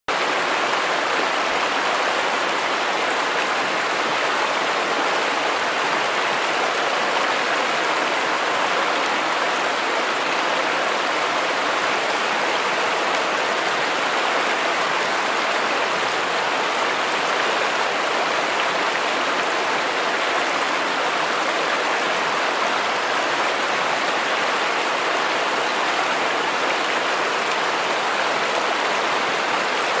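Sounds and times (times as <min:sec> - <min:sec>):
river rushing over rocks: 0:00.1 - 0:30.0.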